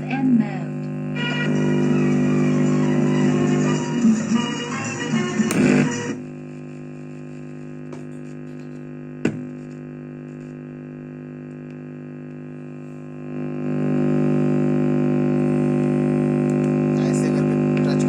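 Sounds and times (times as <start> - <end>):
amplifier mains hum: 0.0 - 18.0.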